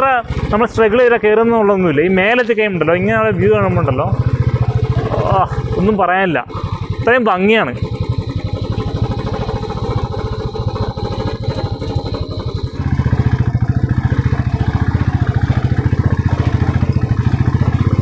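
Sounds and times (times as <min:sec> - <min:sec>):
motorcycle engine pulling uphill: 0:00.0 - 0:18.0.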